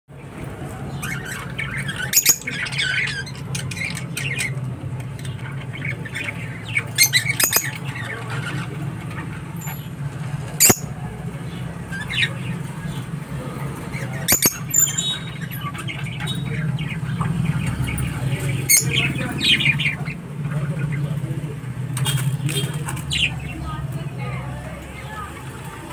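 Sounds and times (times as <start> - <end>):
lovebirds squawking and chirping: 0.3 - 21.4, 22.0 - 23.8.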